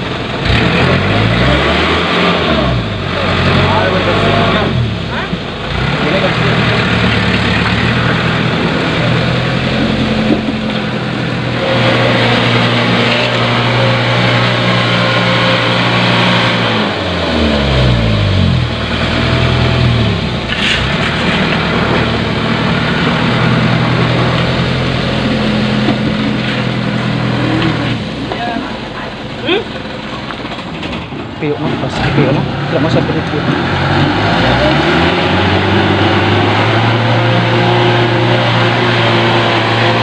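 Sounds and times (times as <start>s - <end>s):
diesel truck engine revving: 0.0s - 40.0s.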